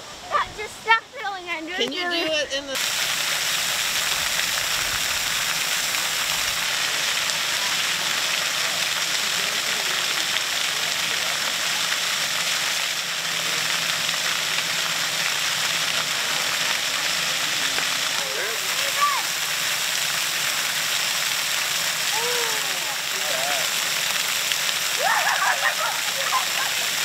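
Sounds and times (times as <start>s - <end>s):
fountain water jets splashing: 0.0s - 27.0s.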